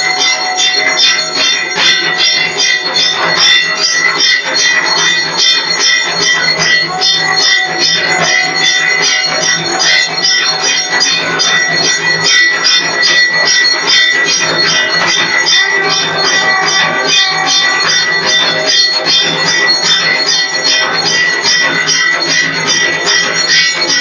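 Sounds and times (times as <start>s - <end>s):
bells and cymbals clanging: 0.0s - 24.0s
high bell tone ringing: 0.0s - 24.0s.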